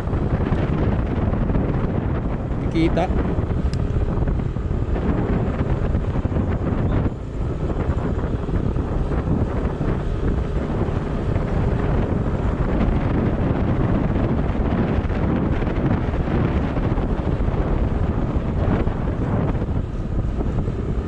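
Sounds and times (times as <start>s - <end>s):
vehicle road and engine noise: 0.0s - 21.0s
wind buffeting microphone: 0.0s - 21.0s.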